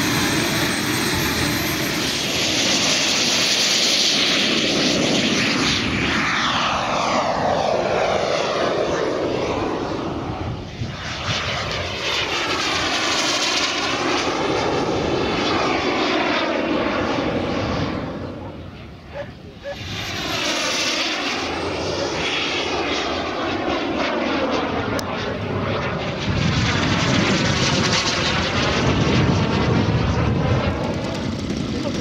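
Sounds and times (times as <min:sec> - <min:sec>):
model jet engine flying past: 0:00.0 - 0:32.0.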